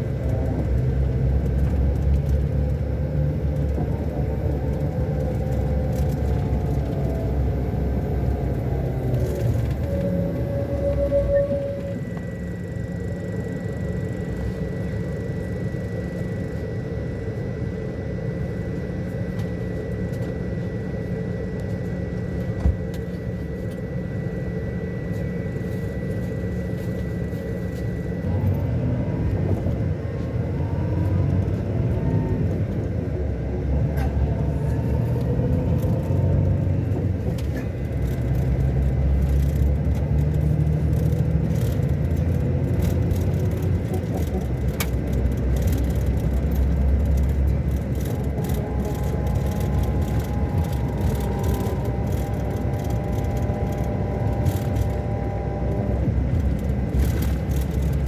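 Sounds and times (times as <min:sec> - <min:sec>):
diesel coach engine droning: 0:00.0 - 0:58.0.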